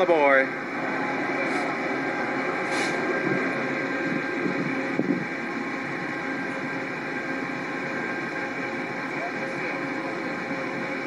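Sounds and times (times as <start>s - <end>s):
train engine running: 0.0s - 11.0s.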